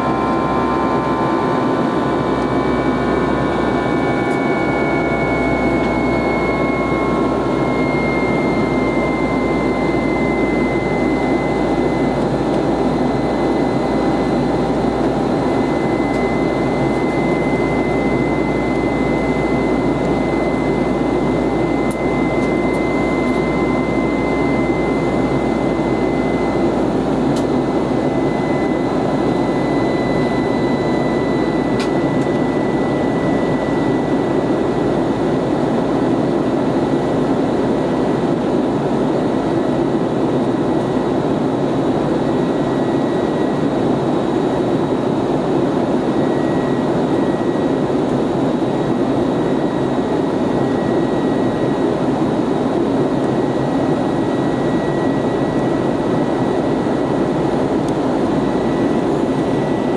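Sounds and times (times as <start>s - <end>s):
faint high whine: 0.0s - 59.9s
jet cabin engine rush: 0.0s - 59.9s.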